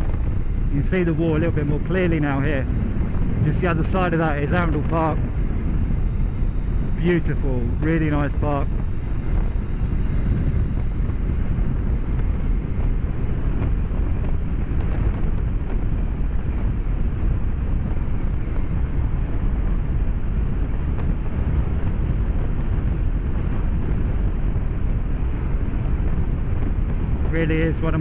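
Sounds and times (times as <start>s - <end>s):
motorcycle engine drone: 0.0s - 28.0s
wind rush: 0.0s - 28.0s.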